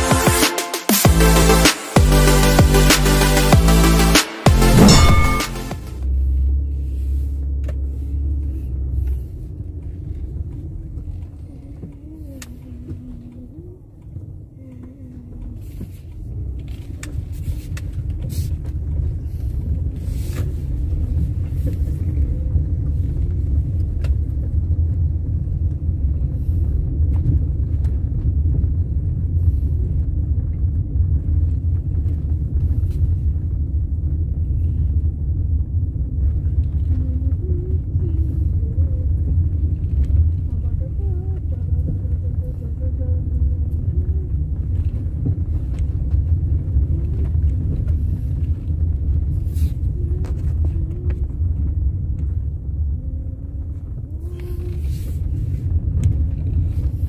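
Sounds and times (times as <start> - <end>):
car engine and road rumble: 1.0 - 57.0.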